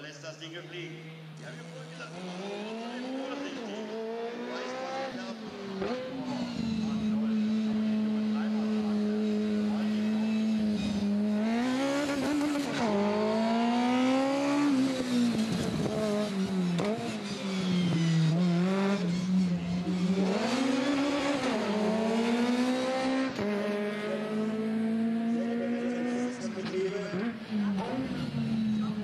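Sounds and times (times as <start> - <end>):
racing car engine revving: 1.0 - 29.0.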